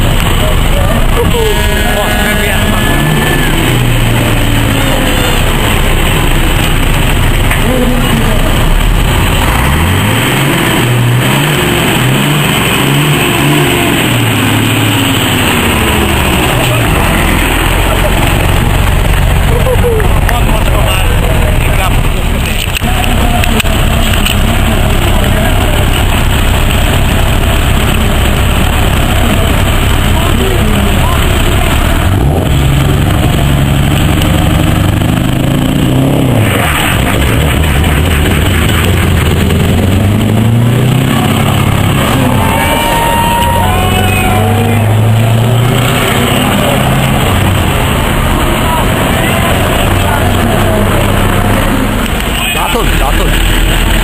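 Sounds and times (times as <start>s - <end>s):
loud rushing noise: 0.0s - 54.0s
truck diesel engine accelerating: 0.0s - 54.0s.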